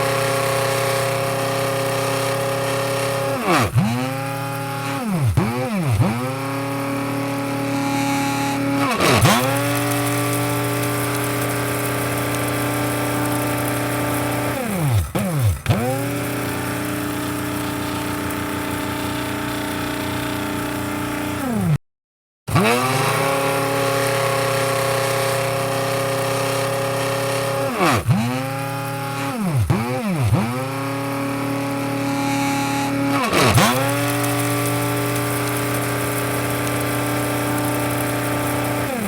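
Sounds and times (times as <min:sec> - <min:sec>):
coffee grinder motor whine: 0:00.0 - 0:21.8, 0:22.5 - 0:39.0.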